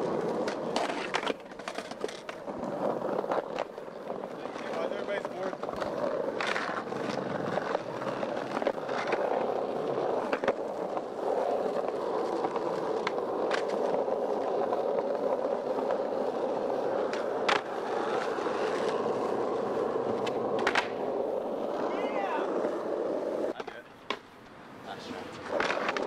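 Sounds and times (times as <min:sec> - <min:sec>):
skateboard clacks: 0:00.0 - 0:26.0
skateboard wheels rolling on pavement: 0:00.0 - 0:26.0.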